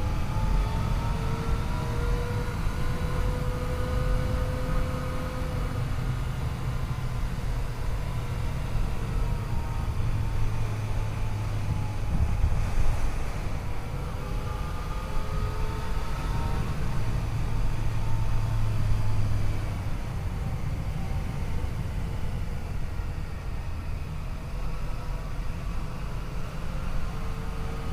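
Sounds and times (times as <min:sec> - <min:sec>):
wind noise on microphone: 0:00.0 - 0:27.9.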